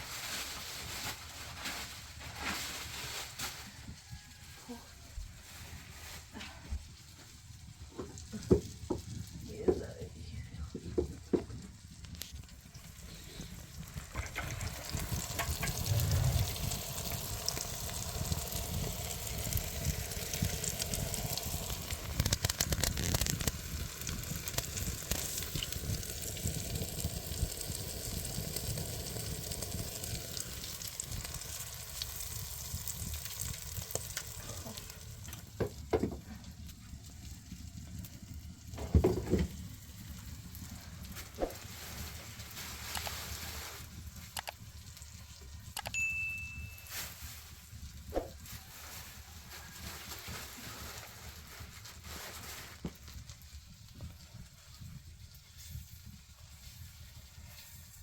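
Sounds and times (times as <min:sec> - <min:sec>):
food sizzling and crackling in pan: 0:11.0 - 0:58.0.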